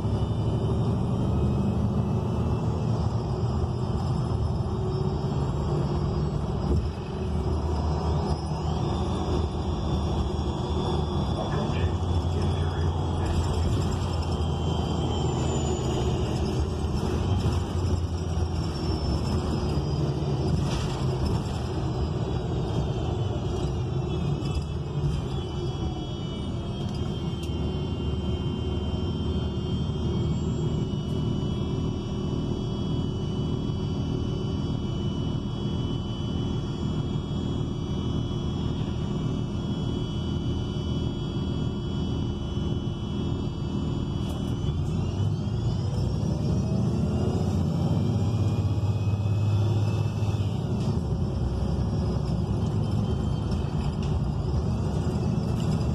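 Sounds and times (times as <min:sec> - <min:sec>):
bus engine low rumble: 0:00.0 - 0:55.9
faint high whine: 0:00.0 - 0:55.9
road noise: 0:00.0 - 0:55.9.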